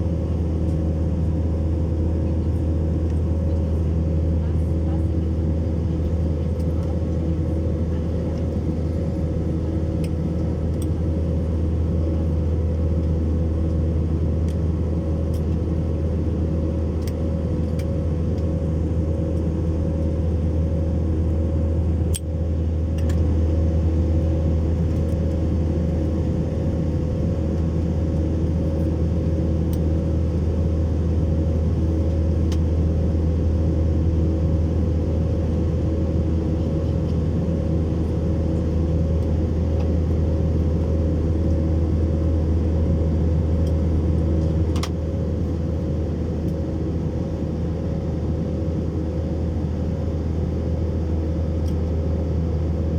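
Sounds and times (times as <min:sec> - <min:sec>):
low engine drone: 0:00.0 - 0:52.9.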